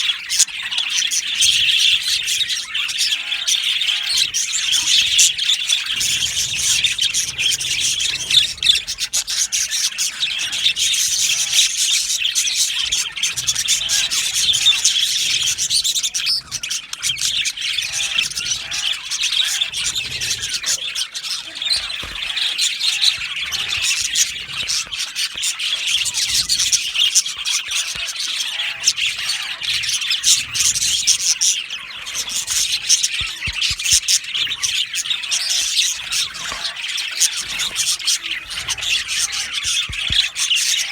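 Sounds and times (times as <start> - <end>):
budgerigars chirping and squawking: 0.0 - 40.9.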